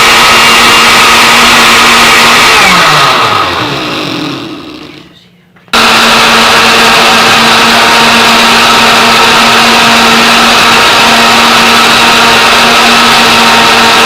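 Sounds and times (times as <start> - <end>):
electric blender running: 0.0 - 5.0, 5.8 - 14.0.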